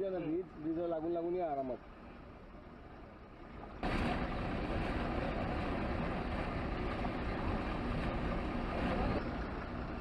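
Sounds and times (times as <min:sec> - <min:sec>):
constant wash of noise: 0:00.0 - 0:10.0.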